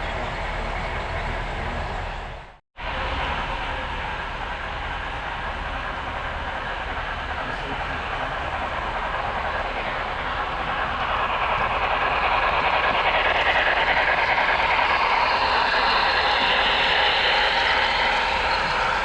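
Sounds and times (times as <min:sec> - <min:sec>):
model train rolling rumble: 0:00.0 - 0:19.0.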